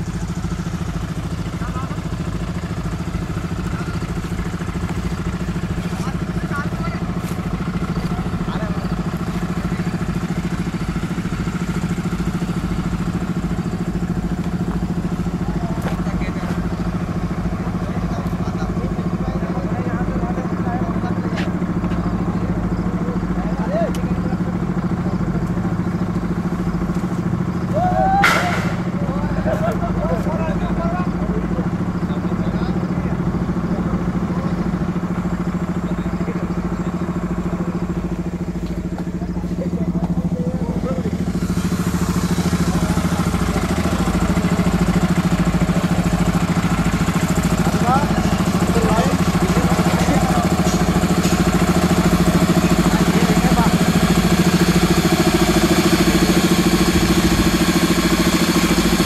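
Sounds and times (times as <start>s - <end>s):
engine running with rapid throb: 0.0s - 59.0s
pulsing mechanical drone: 0.0s - 59.0s.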